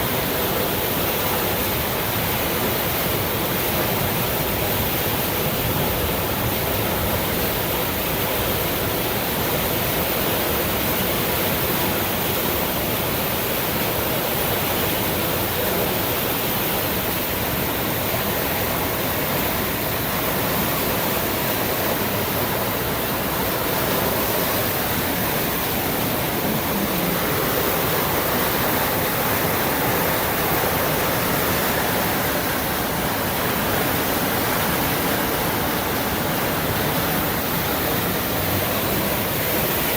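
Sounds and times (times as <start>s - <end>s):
river whitewater rushing: 0.0s - 39.9s.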